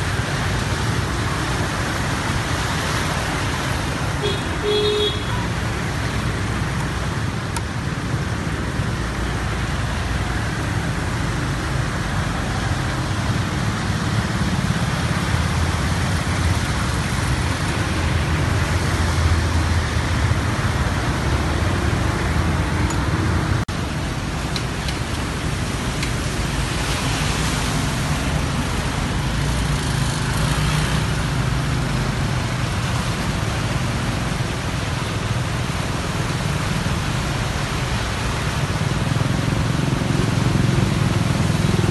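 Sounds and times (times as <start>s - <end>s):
rushing water: 0.0s - 41.9s
traffic noise: 0.0s - 41.9s
vehicle engines running: 5.4s - 41.9s.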